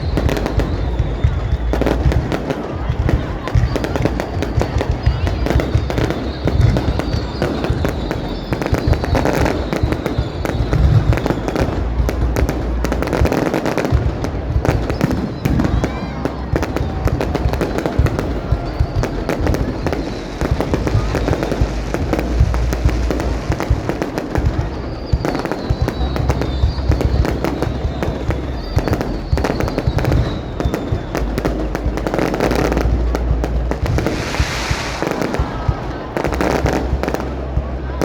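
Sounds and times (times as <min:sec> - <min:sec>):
deep fireworks booms: 0:00.0 - 0:38.0
fireworks crackling and popping: 0:00.0 - 0:38.0.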